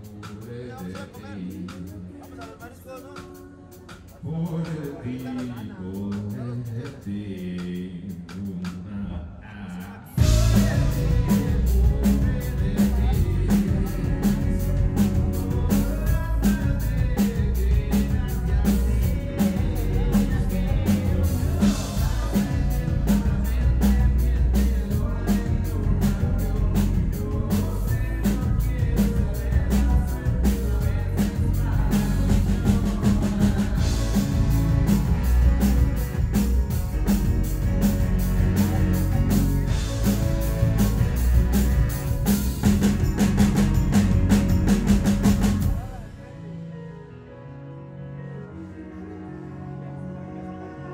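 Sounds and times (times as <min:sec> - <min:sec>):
live rock band playing: 0:00.0 - 0:06.6, 0:10.2 - 0:48.8
drum kit beat: 0:00.0 - 0:08.9, 0:10.2 - 0:46.2.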